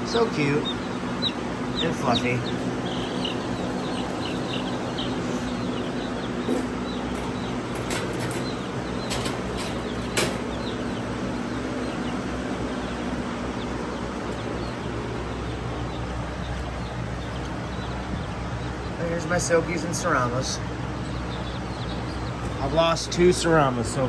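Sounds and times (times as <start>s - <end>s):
chicks peeping: 0.0s - 24.0s
steady low hum: 0.0s - 24.0s.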